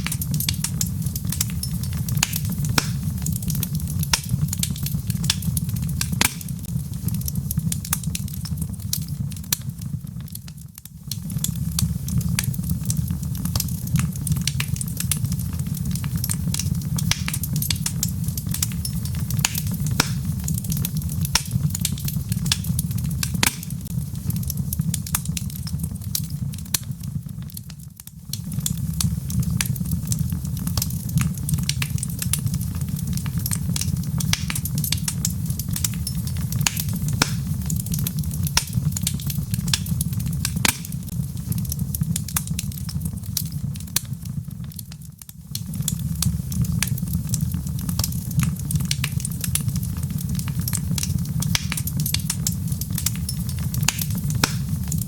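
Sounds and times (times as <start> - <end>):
logs crackling in fireplace: 0.0 - 55.0
sharp pops and snaps: 0.0 - 55.0.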